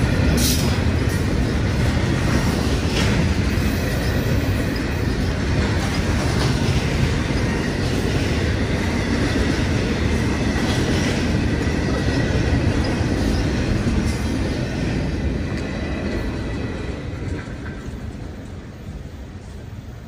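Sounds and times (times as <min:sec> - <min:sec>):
train wheels rumbling and clattering: 0:00.0 - 0:20.0.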